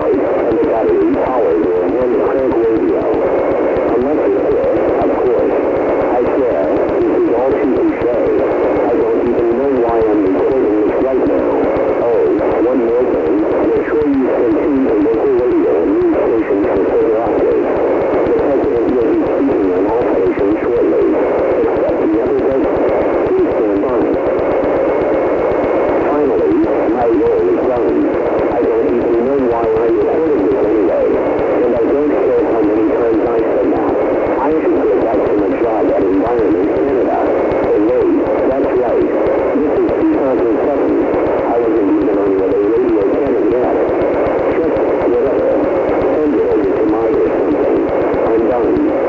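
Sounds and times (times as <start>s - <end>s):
muffled music through radio: 0.0s - 49.0s
radio noise: 0.0s - 49.0s.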